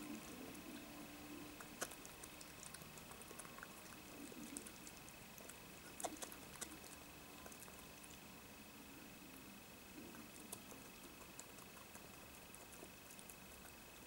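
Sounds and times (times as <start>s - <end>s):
badger chewing food: 0.0s - 8.5s, 9.9s - 14.0s.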